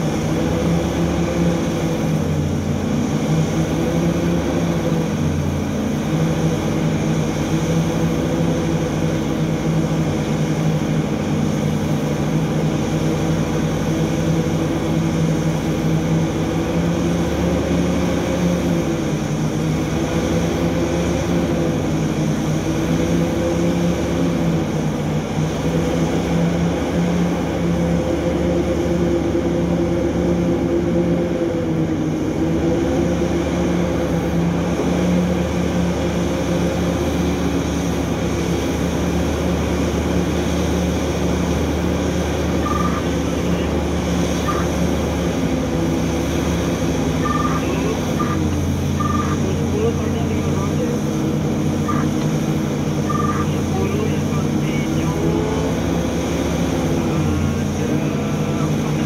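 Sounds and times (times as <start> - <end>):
excavator diesel engine running: 0.0 - 59.0
haul truck: 0.0 - 59.0.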